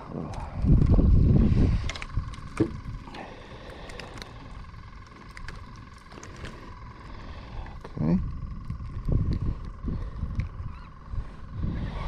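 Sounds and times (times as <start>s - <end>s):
faint steady hum: 0.0s - 12.0s
low rumble: 0.0s - 12.0s.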